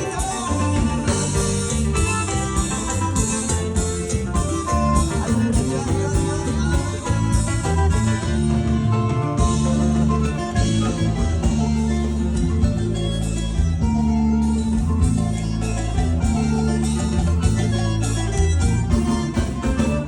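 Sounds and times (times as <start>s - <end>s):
latin dance music: 0.0s - 20.0s.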